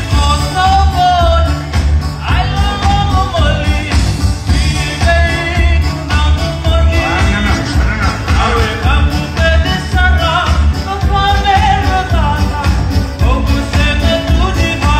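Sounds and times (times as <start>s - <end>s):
deep bass: 0.0s - 14.9s
keyboard: 0.0s - 14.9s
man singing: 0.0s - 14.9s.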